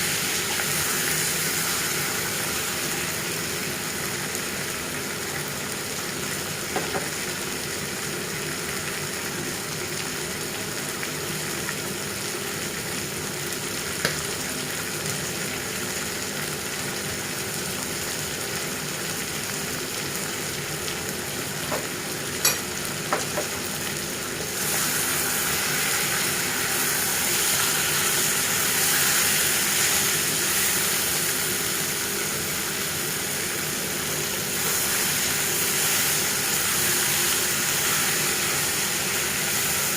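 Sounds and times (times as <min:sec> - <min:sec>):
curry sizzling in hot oil: 0:00.0 - 0:39.9.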